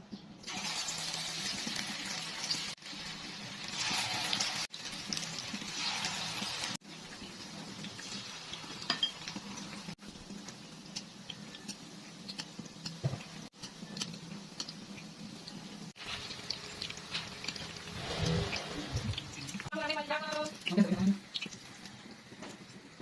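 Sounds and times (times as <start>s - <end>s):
food sizzling: 0.4s - 23.0s.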